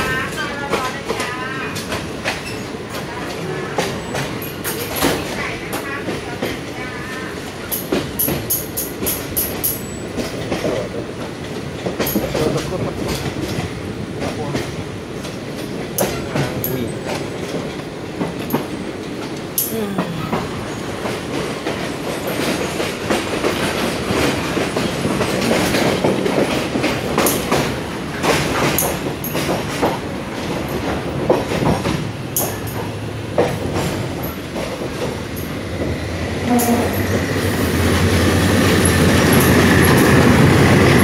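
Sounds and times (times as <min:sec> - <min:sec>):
railway carriage rumbling on track: 0:00.0 - 0:41.0
wheels clicking over rail joints: 0:00.2 - 0:37.3.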